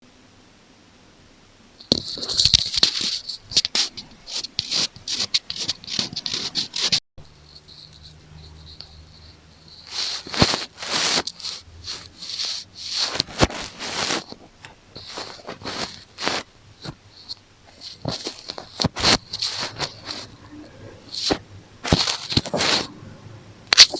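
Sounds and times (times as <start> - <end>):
scratching on microphone: 1.8 - 23.0, 23.7 - 23.9.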